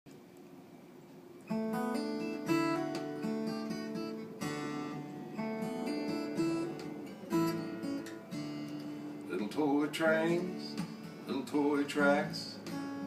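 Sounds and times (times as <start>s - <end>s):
faint hiss: 0.1s - 13.0s
acoustic guitar strumming chords: 1.4s - 13.0s.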